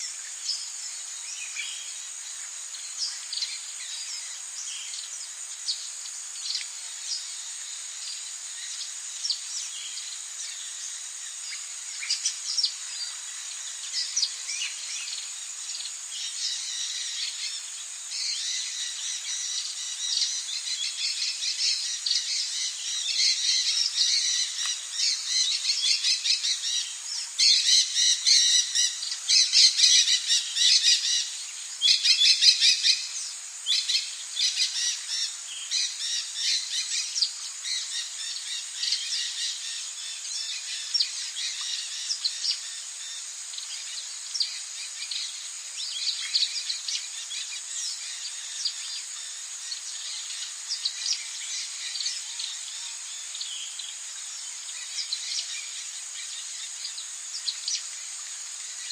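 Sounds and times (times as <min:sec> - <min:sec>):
high-pitched insect drone: 0:00.0 - 0:58.9.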